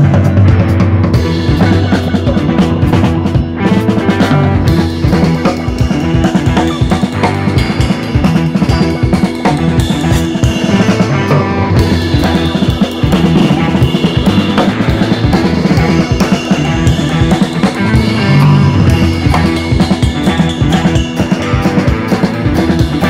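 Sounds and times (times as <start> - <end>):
drum kit beat: 0.0 - 23.0
guitar: 0.0 - 23.0.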